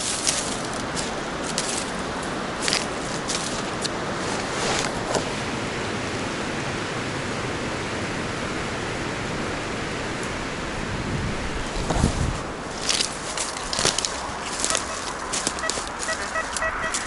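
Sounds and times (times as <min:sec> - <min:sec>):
strong wind through trees: 0:00.0 - 0:17.0.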